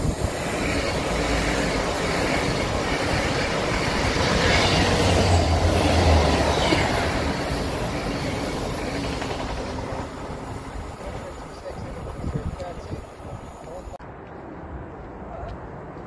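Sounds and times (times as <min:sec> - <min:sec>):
train hum: 0:00.0 - 0:16.0
train passing on rails: 0:00.0 - 0:16.0.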